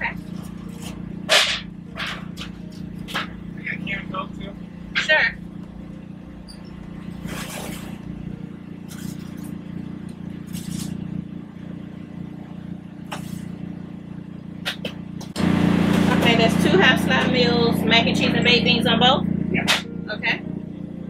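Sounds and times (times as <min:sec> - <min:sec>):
kitchen equipment humming: 0:00.0 - 0:21.0.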